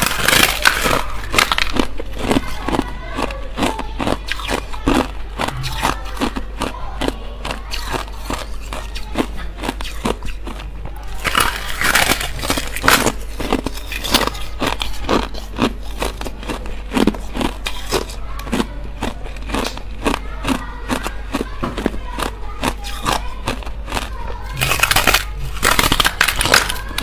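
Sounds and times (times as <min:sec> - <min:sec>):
ice being chewed and crunched: 0:00.0 - 0:27.0.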